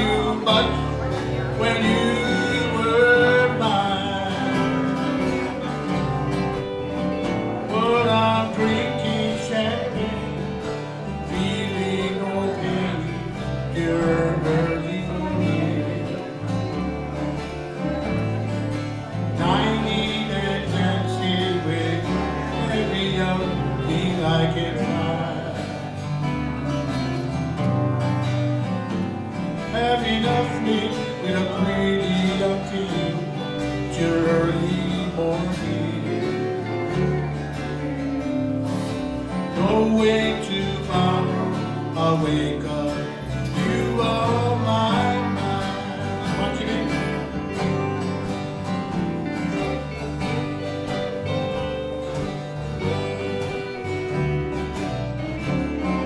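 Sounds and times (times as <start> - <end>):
bass line: 0.0 - 56.0
guitars playing: 0.0 - 56.0
live country band: 0.0 - 56.0.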